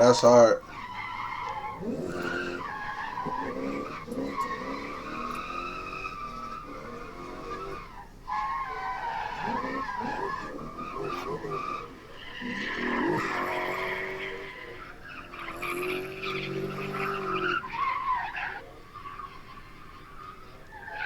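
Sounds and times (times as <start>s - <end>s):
car engine revving: 0.0s - 21.0s
tyres squealing and skidding: 0.0s - 21.0s.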